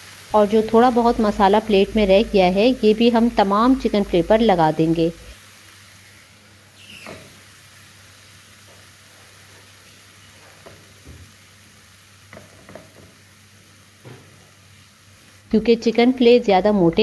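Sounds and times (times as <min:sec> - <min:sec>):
chicken sizzling on a grill pan: 0:00.0 - 0:17.0.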